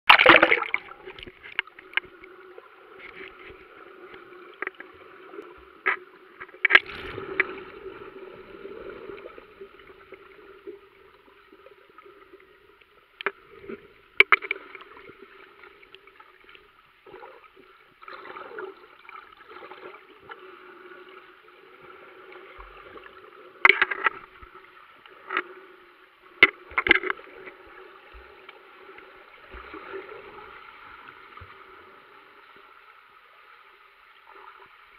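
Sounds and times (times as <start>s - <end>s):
muffled underwater wash: 0.1s - 34.9s.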